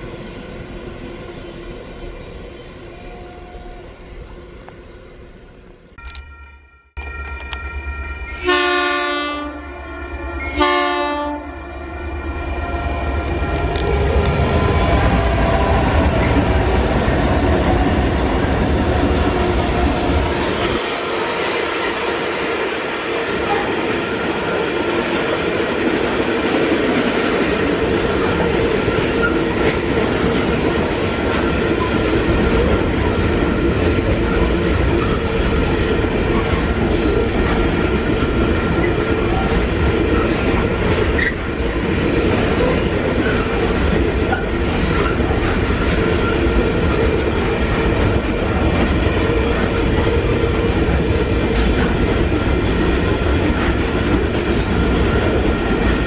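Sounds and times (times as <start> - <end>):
train wheels rumbling on rail: 10.1 - 56.0.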